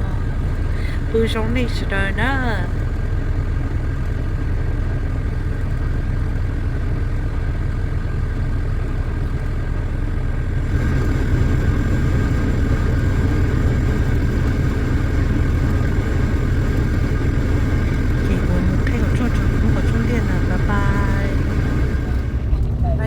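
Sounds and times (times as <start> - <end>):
truck engine and road noise: 0.0 - 23.0.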